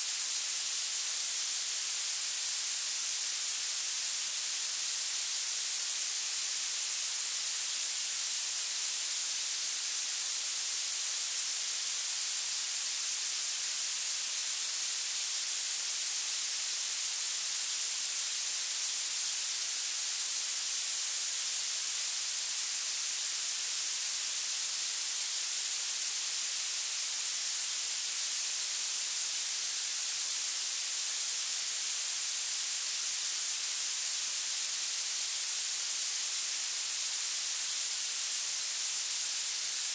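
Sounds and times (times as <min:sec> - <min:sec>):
violet noise hiss: 0:00.0 - 0:39.9.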